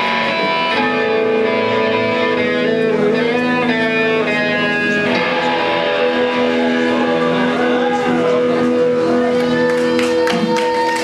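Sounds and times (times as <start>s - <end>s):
amplified electric guitars: 0.0s - 11.0s.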